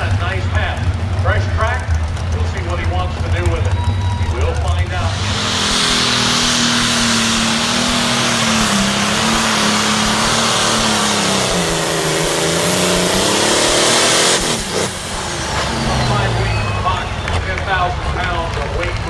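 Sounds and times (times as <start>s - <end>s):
engine roaring at high revs: 0.0s - 19.0s.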